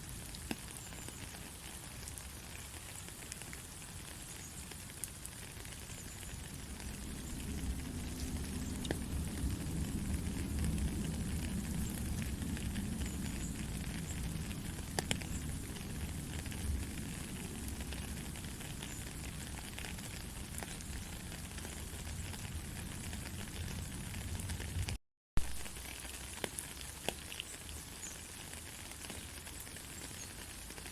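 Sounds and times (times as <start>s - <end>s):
steady rain hiss: 0.0s - 30.9s
close drips crackling: 0.1s - 25.0s, 25.7s - 30.9s.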